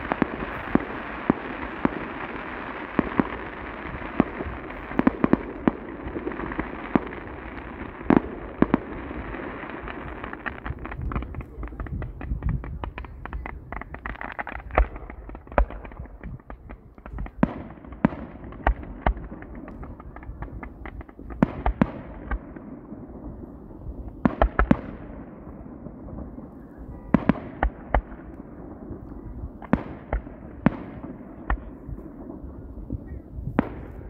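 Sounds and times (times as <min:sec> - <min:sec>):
fireworks bangs: 0:00.0 - 0:34.0
fireworks popping: 0:00.0 - 0:34.0.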